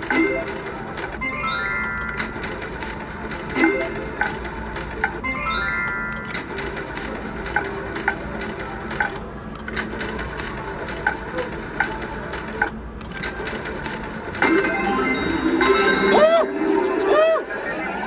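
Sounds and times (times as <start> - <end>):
din of slot machines: 0.0 - 18.0.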